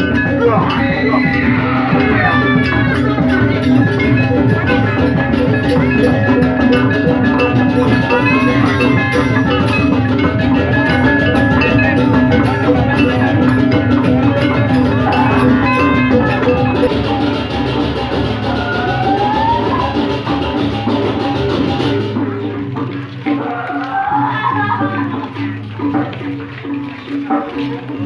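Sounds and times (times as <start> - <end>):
drums: 0.0 - 28.0
gamelan metallophones and gongs: 0.0 - 28.0.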